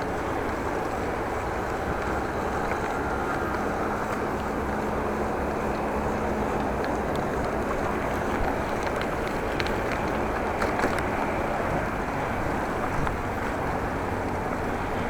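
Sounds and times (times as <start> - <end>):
bicycle road noise: 0.0 - 15.0.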